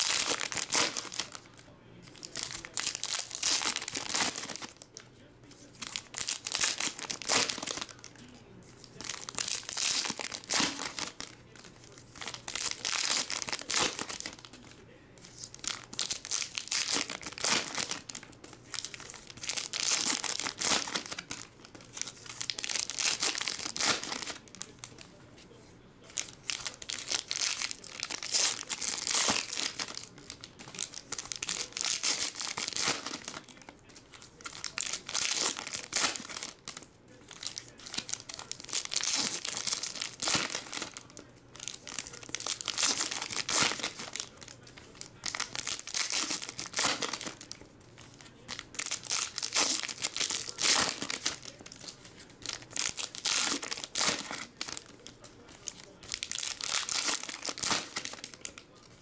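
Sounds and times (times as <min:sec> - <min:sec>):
foil packs crinkling and tearing: 0:00.0 - 0:05.0, 0:05.7 - 0:25.1, 0:26.1 - 0:59.0.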